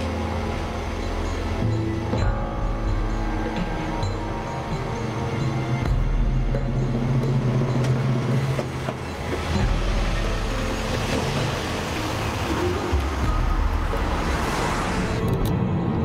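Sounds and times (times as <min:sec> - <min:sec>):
tyre and road noise: 0:00.0 - 0:16.0.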